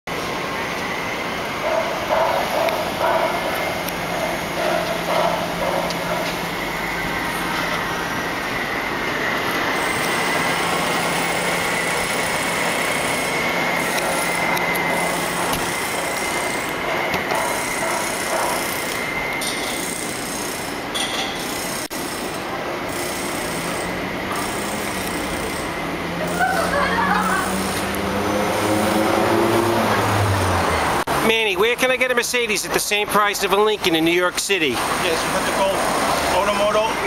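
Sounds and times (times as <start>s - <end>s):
steady high whine: 0.1s - 37.0s
street rumble and hiss: 0.1s - 37.0s.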